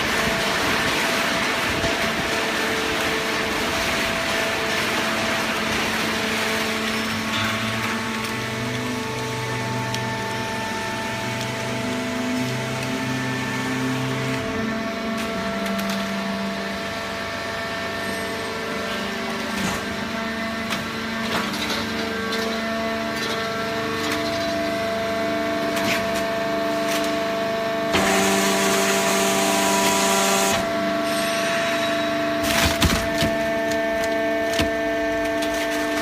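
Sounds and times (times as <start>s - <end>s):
hydraulic pump motor hum: 0.0s - 36.0s.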